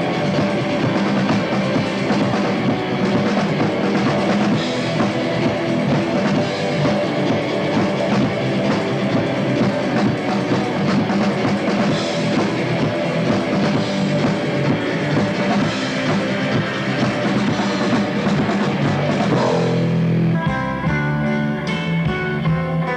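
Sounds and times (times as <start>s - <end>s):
ringing guitar chords: 0.0s - 22.9s
rock band playing: 0.0s - 22.9s.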